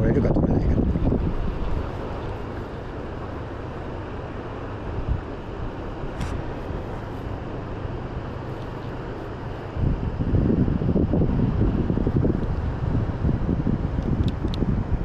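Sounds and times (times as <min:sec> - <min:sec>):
wind buffeting microphone: 0:00.0 - 0:15.0
fast river rushing: 0:00.8 - 0:13.2.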